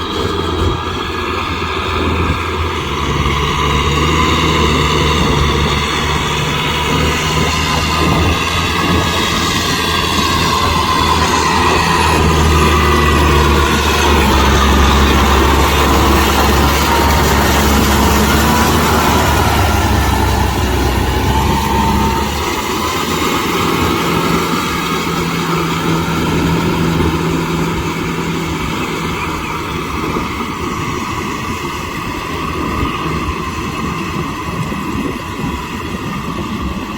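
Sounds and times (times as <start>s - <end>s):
tractor diesel engine droning: 0.0s - 36.9s.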